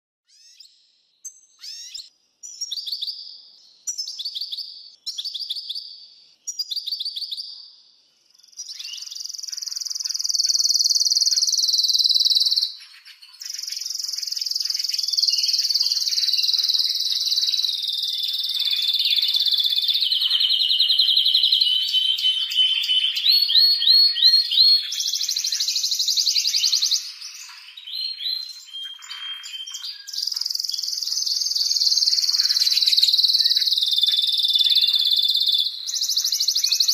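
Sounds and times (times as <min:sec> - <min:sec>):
canary singing trills: 0:00.3 - 0:36.9.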